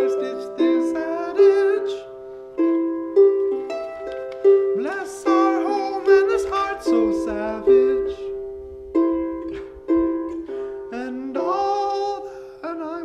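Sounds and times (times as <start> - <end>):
person singing: 0.0 - 13.0
plucked string instrument: 0.0 - 13.0.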